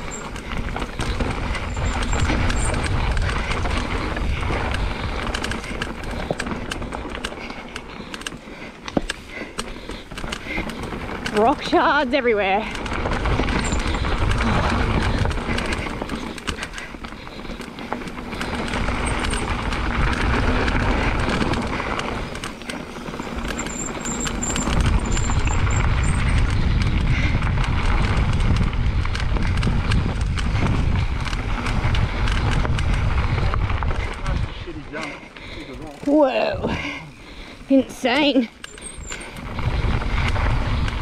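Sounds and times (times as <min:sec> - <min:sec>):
wind rumble on microphone: 0:00.0 - 0:07.5, 0:10.1 - 0:35.2, 0:37.6 - 0:41.0
bike clattering and rattling: 0:00.0 - 0:41.0
tyres crunching over rocks: 0:00.0 - 0:41.0.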